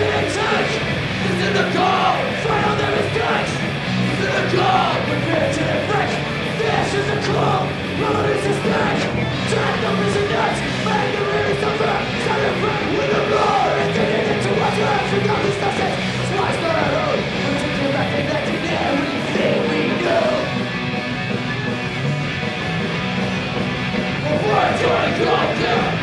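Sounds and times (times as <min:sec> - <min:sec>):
punk rock band playing live: 0:00.0 - 0:26.0.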